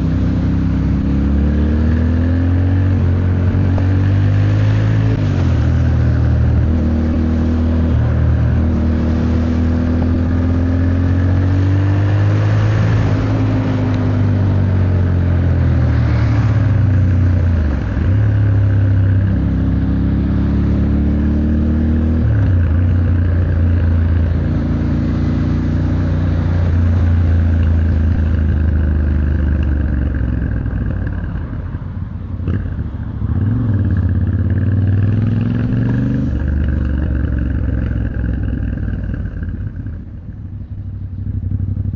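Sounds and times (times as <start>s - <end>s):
motorcycle engine accelerating: 0.0s - 41.9s
wind and tyre noise: 0.0s - 41.9s.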